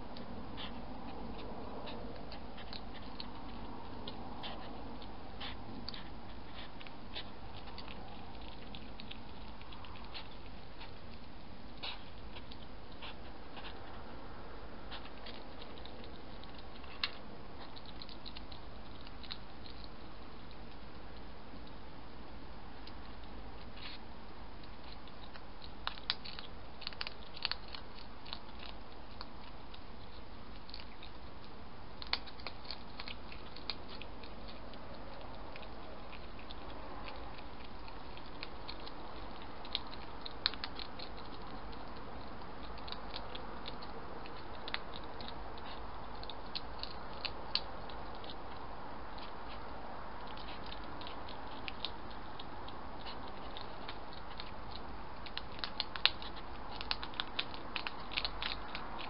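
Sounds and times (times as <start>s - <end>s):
hedgehogs crunching food: 0.0s - 59.0s.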